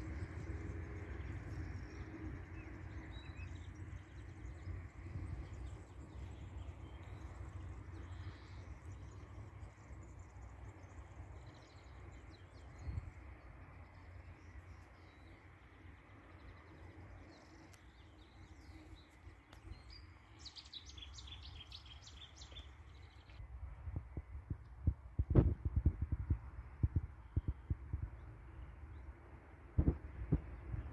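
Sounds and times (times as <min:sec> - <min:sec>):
small birds chirping: 0:00.0 - 0:24.6, 0:26.9 - 0:29.2
low steady rumble: 0:00.0 - 0:30.9.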